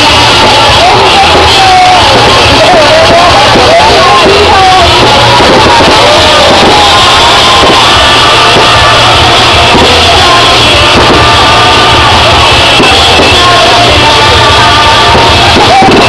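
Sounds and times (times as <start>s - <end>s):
crowd singing and shouting: 0.0s - 16.0s
loud music: 0.0s - 16.0s.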